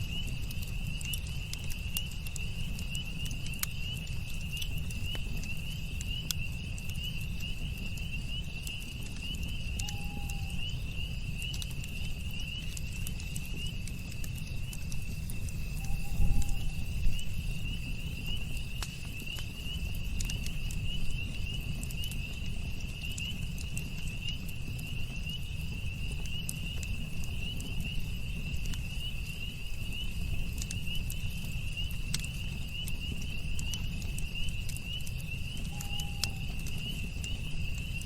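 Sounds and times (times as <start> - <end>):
campfire crackling and popping: 0.0 - 38.0
night insects chorus: 0.0 - 38.0.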